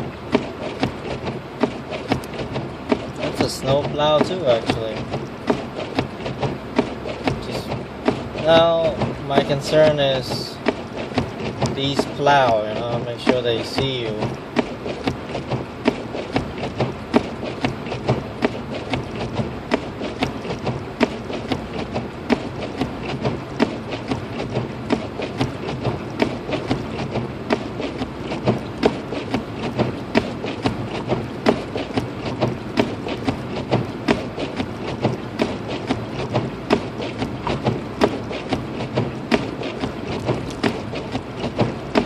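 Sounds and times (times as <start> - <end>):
car road and drivetrain noise: 0.0 - 42.0
sharp ticks and taps: 0.3 - 42.0.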